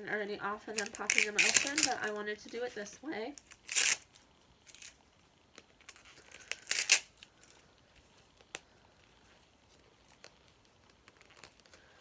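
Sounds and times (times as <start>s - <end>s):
plastic wrap rustling: 0.6s - 12.0s.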